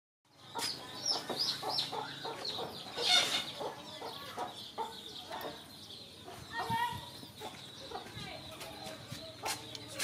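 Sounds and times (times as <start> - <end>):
chickens clucking: 0.3 - 10.0.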